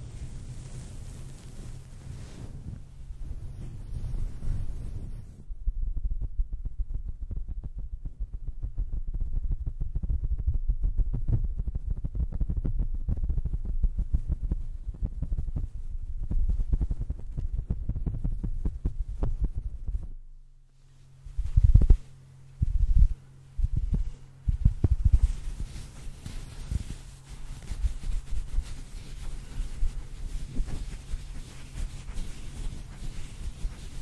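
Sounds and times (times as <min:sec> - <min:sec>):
fur rubbing on microphone: 0:00.0 - 0:07.2, 0:11.0 - 0:34.0.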